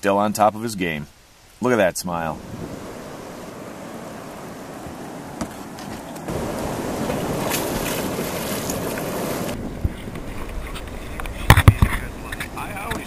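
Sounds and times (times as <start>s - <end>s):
river rapids rushing: 1.6s - 13.0s
wind on microphone: 2.2s - 13.0s.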